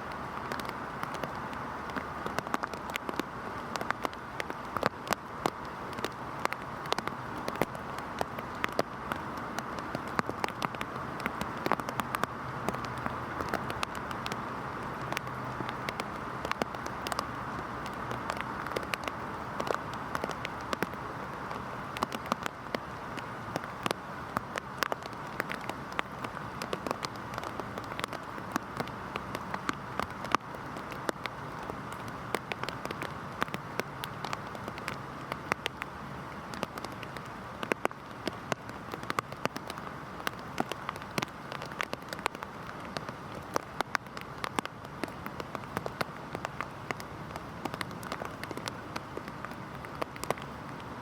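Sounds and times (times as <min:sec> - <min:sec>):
heavy rain falling: 0:00.0 - 0:51.0
raindrop impacts: 0:00.0 - 0:51.0.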